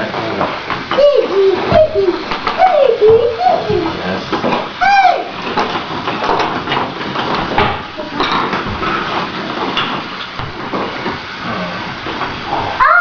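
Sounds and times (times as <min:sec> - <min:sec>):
toy train track clattering: 0:00.1 - 0:12.4.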